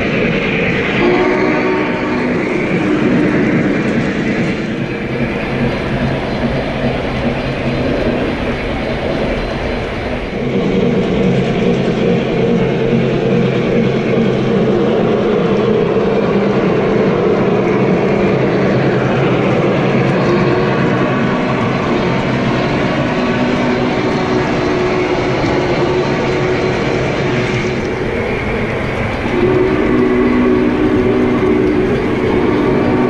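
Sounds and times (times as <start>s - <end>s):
model train motor hum and rolling: 0.0s - 33.0s.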